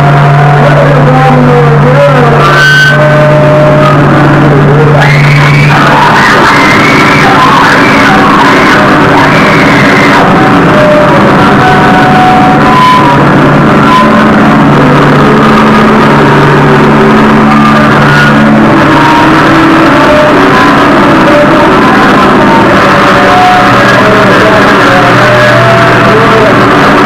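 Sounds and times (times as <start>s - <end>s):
distorted electric guitar: 0.0s - 27.0s.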